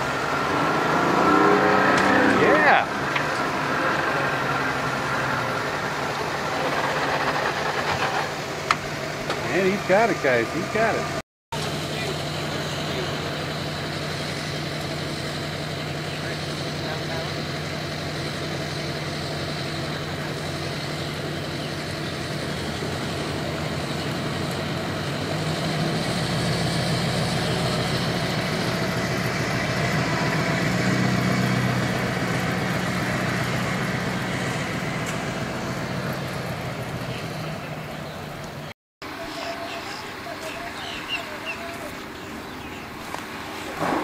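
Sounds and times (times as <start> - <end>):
pickup truck engine passing: 0.0 - 44.0.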